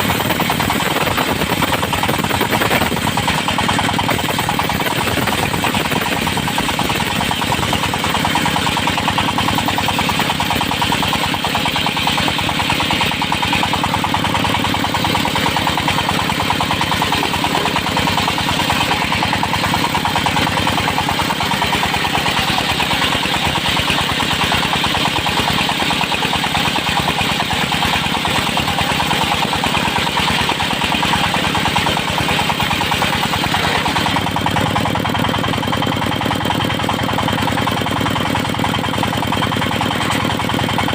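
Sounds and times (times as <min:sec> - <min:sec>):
circular sawmill running: 0:00.0 - 0:40.9.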